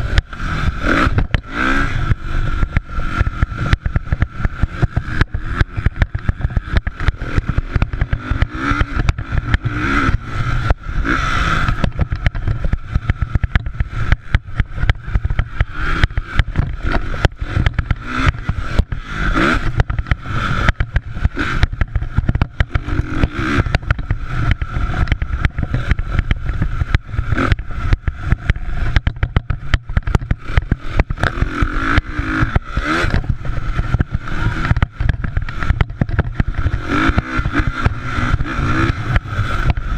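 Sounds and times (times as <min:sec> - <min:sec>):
low rumble and crackle: 0:00.0 - 0:39.9
motocross engines revving: 0:00.0 - 0:39.9.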